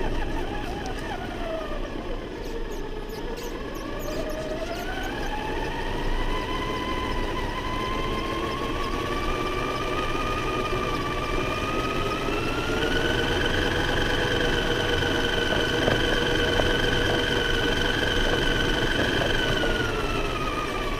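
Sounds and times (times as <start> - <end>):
rc truck motor whining: 0.0 - 20.9.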